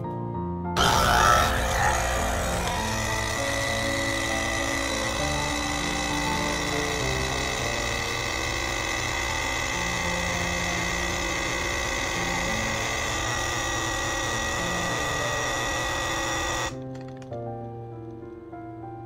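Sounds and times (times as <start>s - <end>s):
soft background music: 0.0s - 19.0s
coffee machine pump buzzing: 0.8s - 16.8s.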